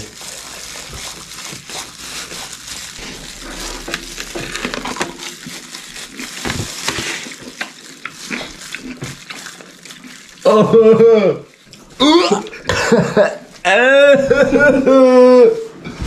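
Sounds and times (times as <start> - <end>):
plastic gloves crinkling: 0.0 - 13.8.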